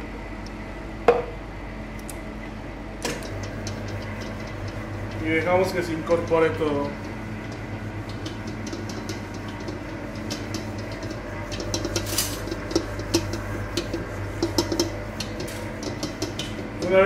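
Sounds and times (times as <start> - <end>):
stand mixer running: 2.9 - 17.0.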